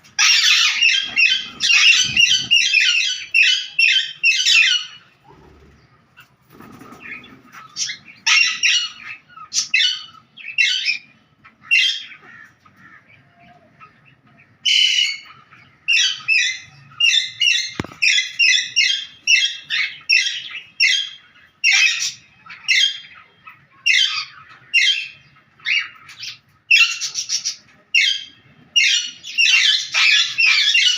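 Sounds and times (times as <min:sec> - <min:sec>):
pet birds chirping and squawking: 0:00.0 - 0:30.9.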